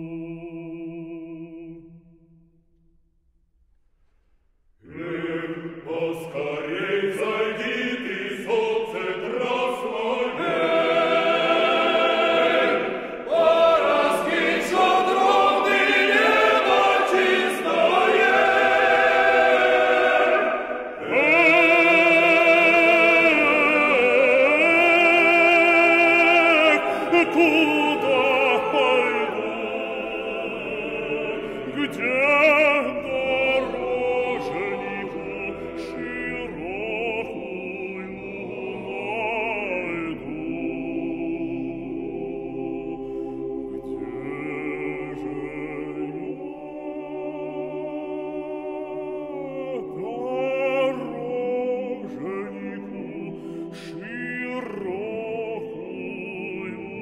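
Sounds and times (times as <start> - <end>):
operatic singing with choir: 0.0 - 2.0, 4.8 - 57.0.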